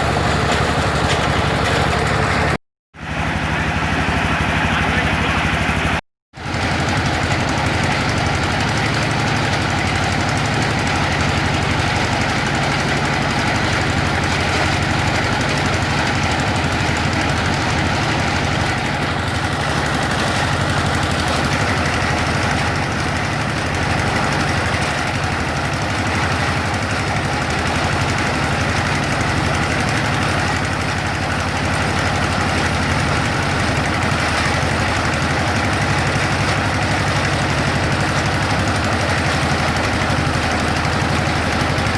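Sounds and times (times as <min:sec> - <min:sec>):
well drilling rig clattering: 0:00.0 - 0:41.9.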